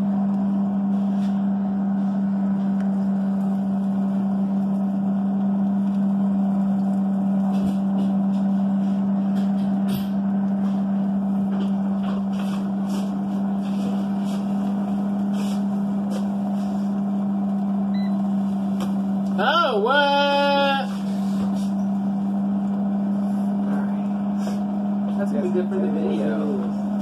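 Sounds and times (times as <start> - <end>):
air fryer electric hum: 0.0 - 27.0.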